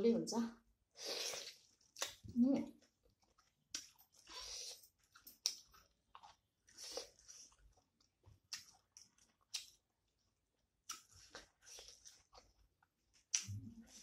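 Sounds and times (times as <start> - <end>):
wet chewing with crunching: 1.0 - 14.0.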